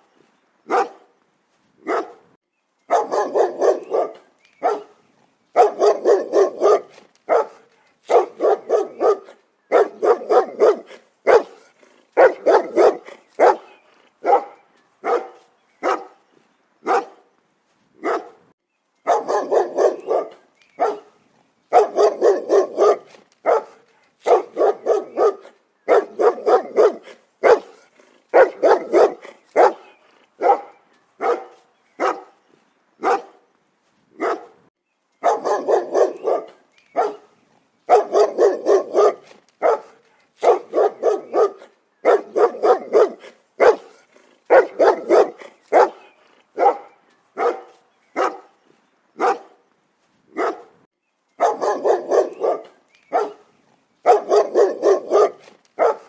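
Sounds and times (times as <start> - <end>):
dog barking: 0.7 - 1.1, 1.8 - 2.3, 2.9 - 16.2, 16.8 - 17.3, 18.0 - 18.4, 19.0 - 32.4, 33.0 - 33.4, 34.2 - 34.6, 35.2 - 48.6, 49.2 - 49.6, 50.3 - 50.8, 51.4 - 56.0.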